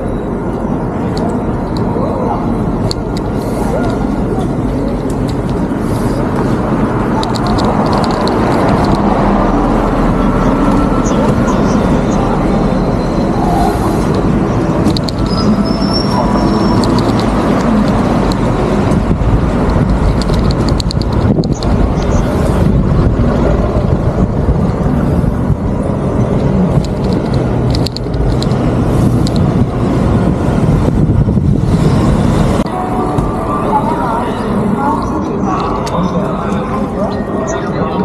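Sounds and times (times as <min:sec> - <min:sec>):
low rumble of traffic: 0:00.0 - 0:38.0.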